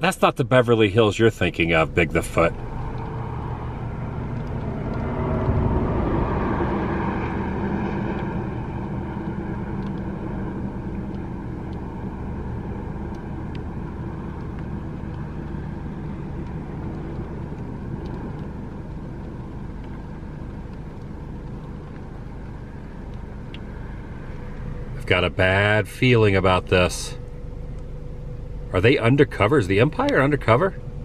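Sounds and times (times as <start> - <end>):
car engine and tyre drone: 0.0 - 31.0.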